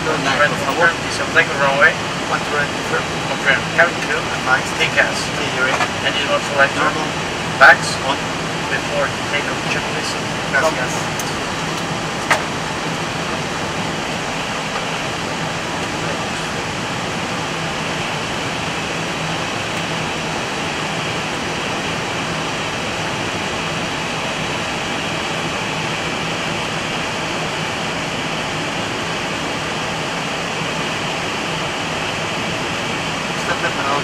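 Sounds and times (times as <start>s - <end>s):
constant low hum: 0.0s - 34.0s
engine and airflow hiss: 0.0s - 34.0s.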